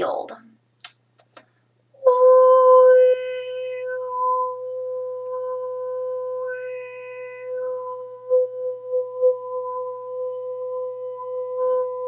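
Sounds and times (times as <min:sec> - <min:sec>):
woman singing long held note: 0:02.0 - 0:12.0.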